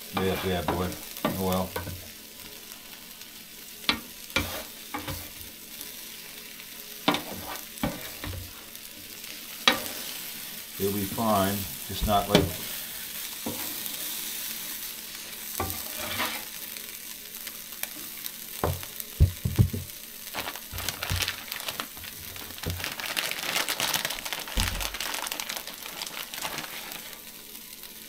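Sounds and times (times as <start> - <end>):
food sizzling on griddle: 0.0 - 28.0.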